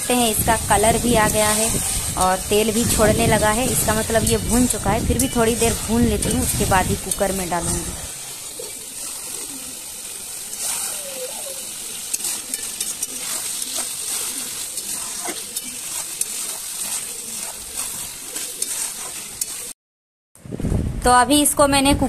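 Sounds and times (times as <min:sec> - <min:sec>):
meat sizzling in oil: 0:00.1 - 0:19.8
metal spatula scraping a pan: 0:00.9 - 0:19.7.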